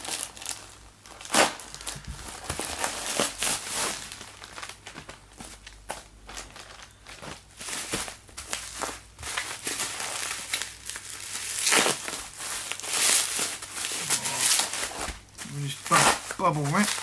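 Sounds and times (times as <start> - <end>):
plastic and bubble wrap crinkling: 0.0 - 17.0.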